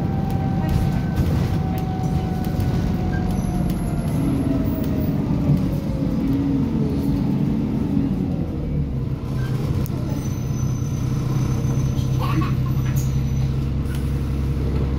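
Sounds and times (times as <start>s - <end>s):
bus engine rumble: 0.0s - 14.9s.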